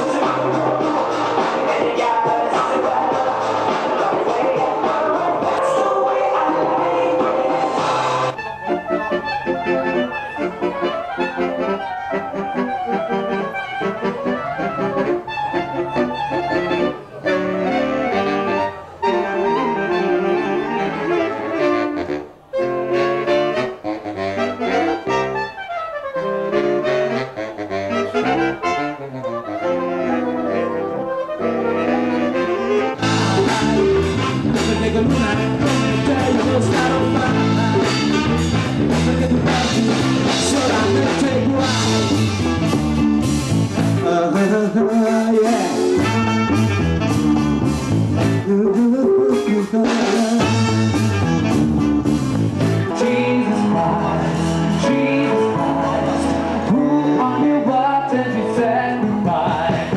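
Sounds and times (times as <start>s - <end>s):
saxophone quartet playing: 0.0s - 44.1s, 45.5s - 48.5s, 49.8s - 59.9s
band with electric guitar and drums: 0.0s - 59.9s.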